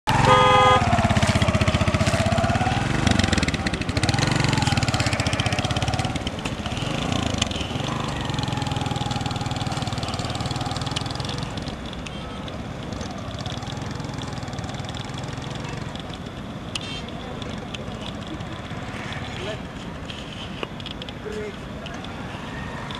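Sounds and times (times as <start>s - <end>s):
motorcycle engine revving: 0.1s - 19.5s.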